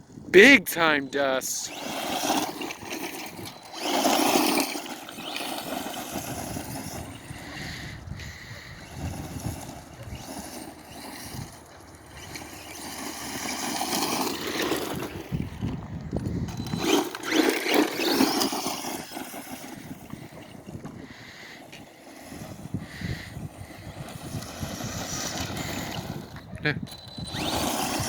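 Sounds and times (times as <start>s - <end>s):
toy truck motor whining: 0.4s - 28.0s.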